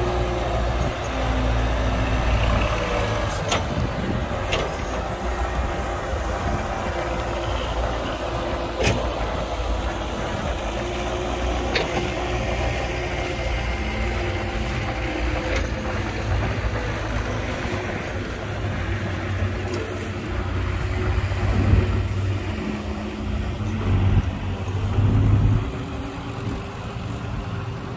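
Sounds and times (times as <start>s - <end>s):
heavy machinery diesel engine: 0.0s - 27.9s.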